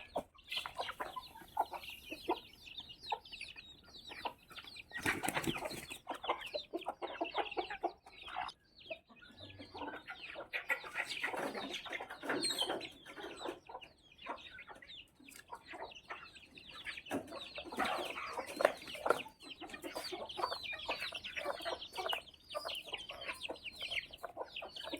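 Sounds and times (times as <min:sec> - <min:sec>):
chickens clucking: 0:00.0 - 0:24.9.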